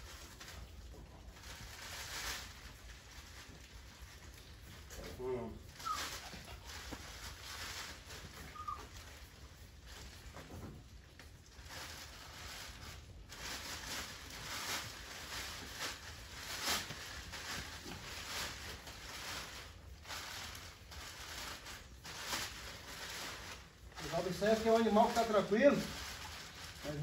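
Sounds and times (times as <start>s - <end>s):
plastic tarp rustling and crinkling: 0.0s - 27.0s.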